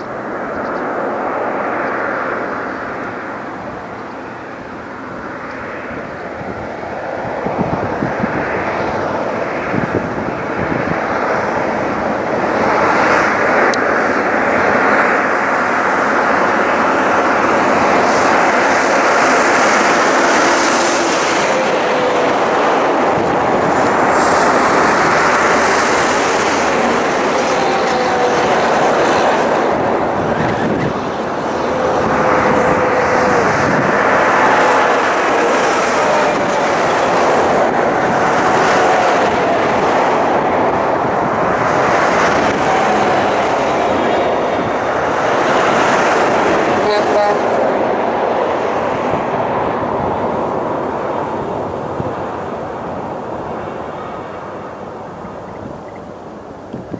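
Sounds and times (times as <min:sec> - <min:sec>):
heavy trucks passing: 0:00.0 - 0:56.9.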